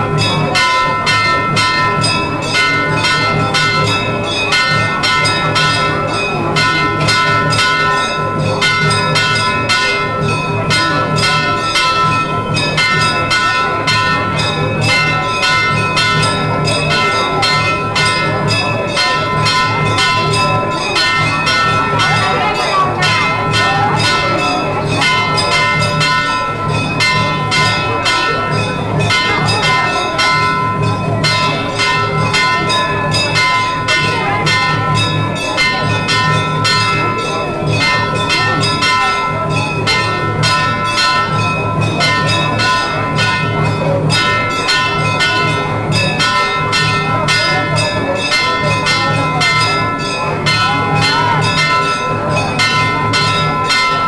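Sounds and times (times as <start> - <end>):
bells ringing rapidly: 0.0 - 54.0.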